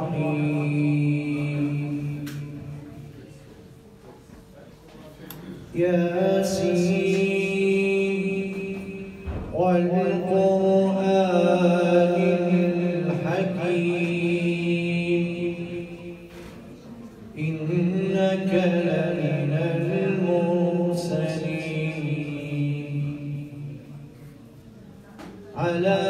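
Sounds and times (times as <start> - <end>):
man reciting melodically: 0.0 - 3.2, 5.2 - 24.1, 25.6 - 26.0.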